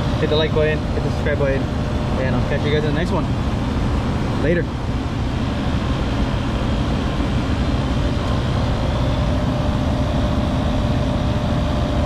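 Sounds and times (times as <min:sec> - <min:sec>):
air conditioning unit drone: 0:00.0 - 0:12.0
faint hum tone: 0:00.0 - 0:12.0.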